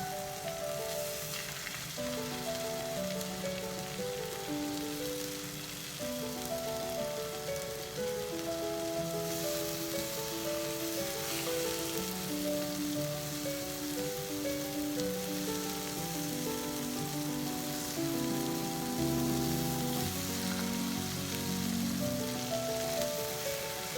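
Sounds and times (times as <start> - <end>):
food sizzling in a frying pan: 0.0 - 23.9
gentle background music: 0.0 - 23.9.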